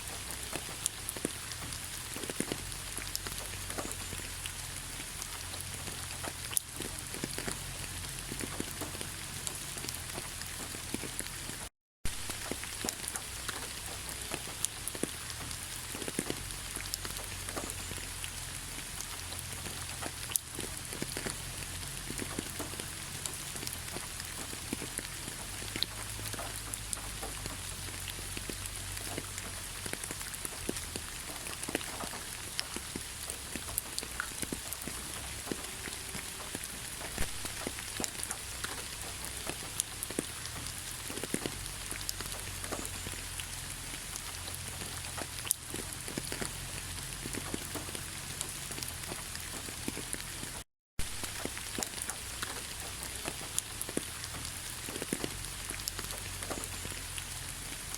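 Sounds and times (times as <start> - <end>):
heavy rain: 0.0 - 57.9
raindrops tapping: 0.0 - 57.9.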